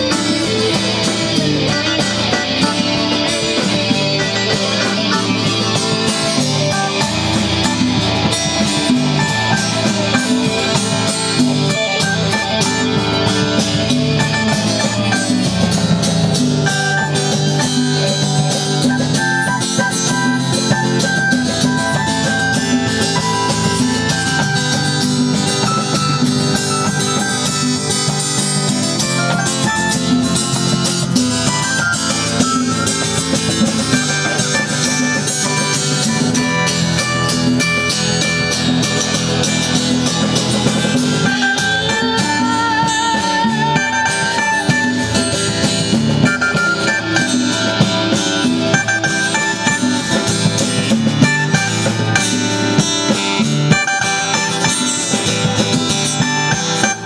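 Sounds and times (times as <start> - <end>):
live rock band playing: 0.0 - 57.0
wavering lead guitar: 0.0 - 57.0.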